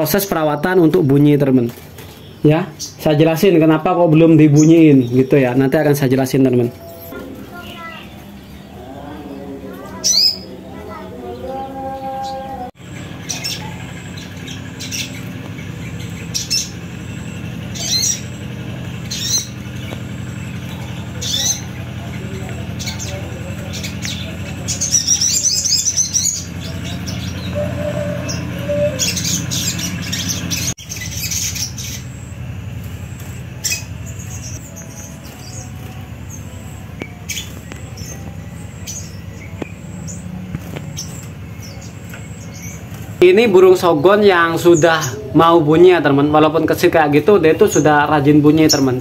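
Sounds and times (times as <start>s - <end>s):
small bird chirping: 0.0s - 45.4s
steady low hum: 0.0s - 49.0s.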